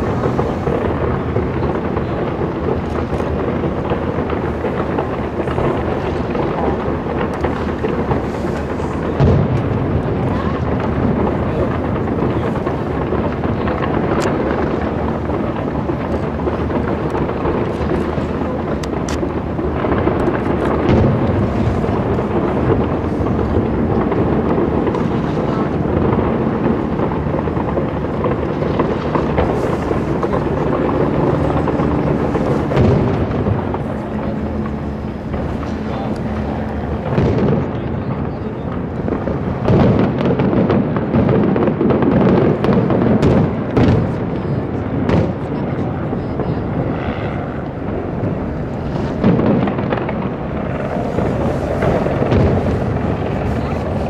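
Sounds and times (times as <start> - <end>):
sharp firework bang: 0.0 - 46.6, 48.6 - 54.0
fireworks crackling and rumbling: 0.0 - 54.0.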